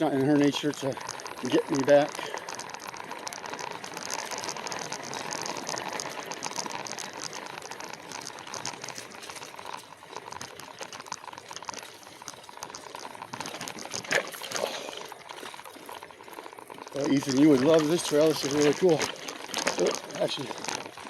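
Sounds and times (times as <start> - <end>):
bike tyres and frame rattling: 0.0 - 21.0.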